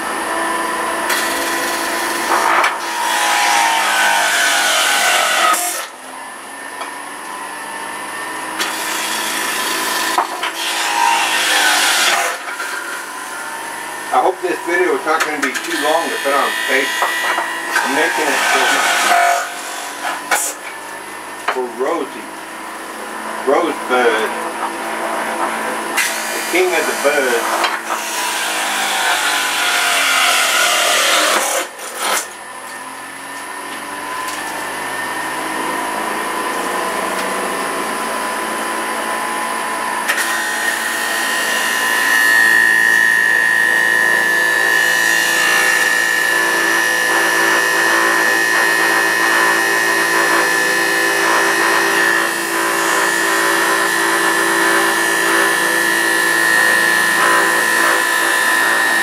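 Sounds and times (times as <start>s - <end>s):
electric juicer motor whining: 0.0s - 3.9s, 4.5s - 18.7s, 19.5s - 59.0s.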